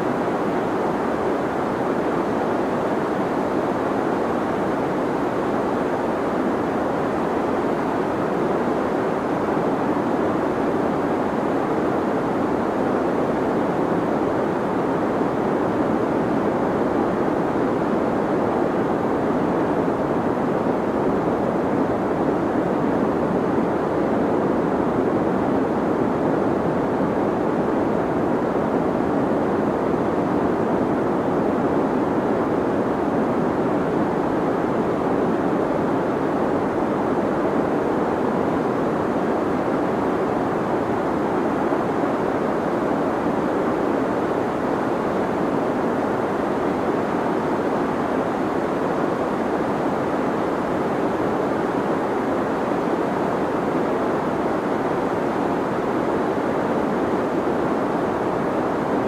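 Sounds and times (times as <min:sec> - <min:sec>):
deep white noise hiss: 0:00.0 - 0:59.0.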